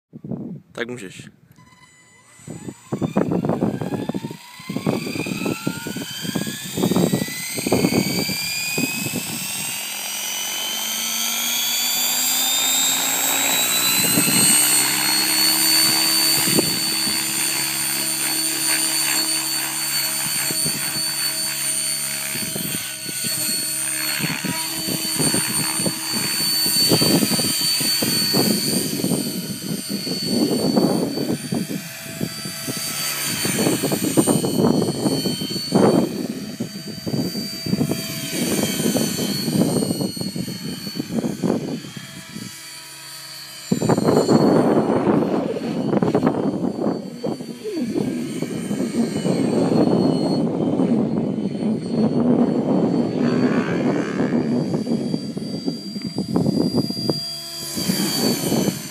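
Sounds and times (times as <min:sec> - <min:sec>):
wind rumbling on microphone: 0:00.1 - 0:01.8, 0:02.4 - 0:58.9
electric helicopter motor whine: 0:01.5 - 0:58.9
rotor buzz: 0:01.5 - 0:58.9.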